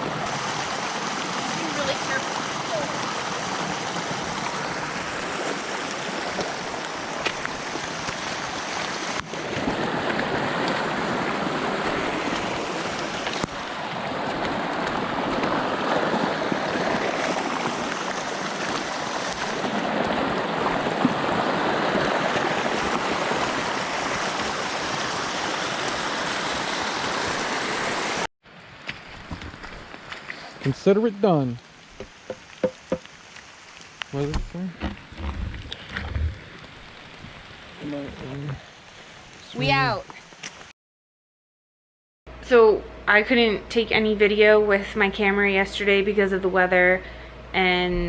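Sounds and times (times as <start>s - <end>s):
stream water rushing: 0.0s - 40.7s.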